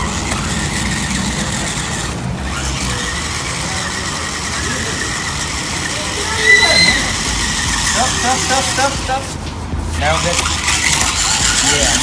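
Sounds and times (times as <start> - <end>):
toy car motor whining: 0.0 - 9.3, 10.0 - 12.0.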